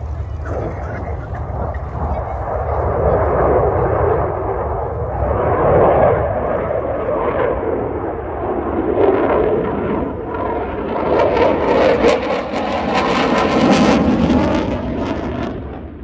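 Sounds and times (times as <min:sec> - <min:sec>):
fighter jet engines roaring: 0:00.0 - 0:16.0.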